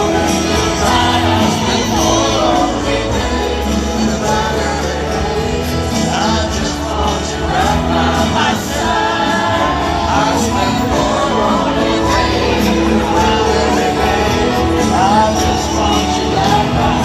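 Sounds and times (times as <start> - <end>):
live band playing: 0.0 - 17.0
voices singing: 0.0 - 17.0.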